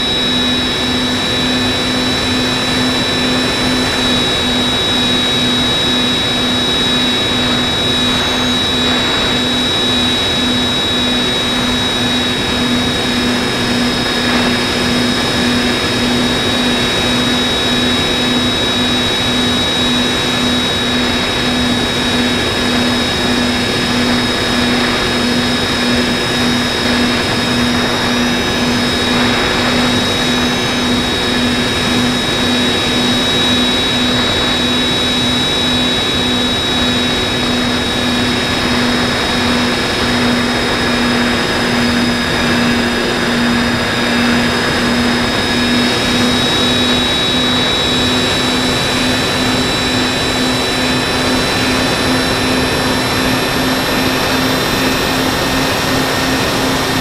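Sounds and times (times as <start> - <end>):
electric motor high whine: 0.0 - 57.0
low pulsing hum: 0.0 - 57.0.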